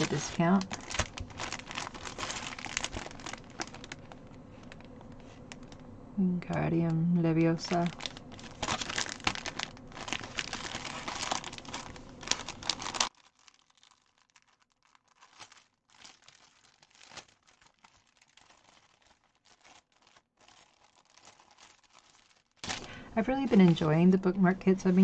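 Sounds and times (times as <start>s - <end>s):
plastic bags crinkling: 0.0s - 5.9s, 6.5s - 25.0s.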